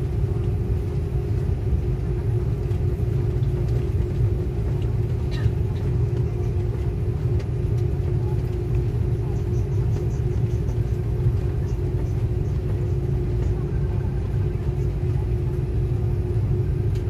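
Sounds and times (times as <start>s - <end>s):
airliner cabin rumble: 0.0s - 17.0s
engine hum: 0.0s - 17.0s.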